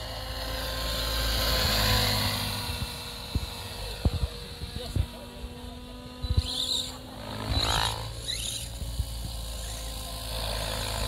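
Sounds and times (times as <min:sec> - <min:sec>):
rc helicopter motor whine: 0:00.0 - 0:11.0.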